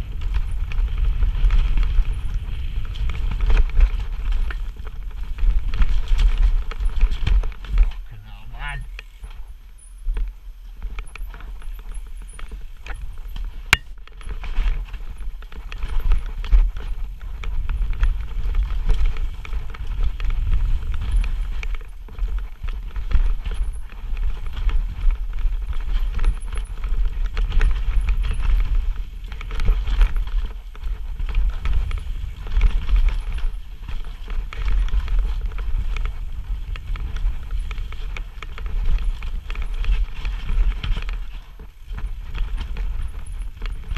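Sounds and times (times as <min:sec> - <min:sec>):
bike rattling over bumps: 0:00.0 - 0:43.9
tyres running on dirt: 0:00.0 - 0:43.9
wind rumble on microphone: 0:00.0 - 0:43.9.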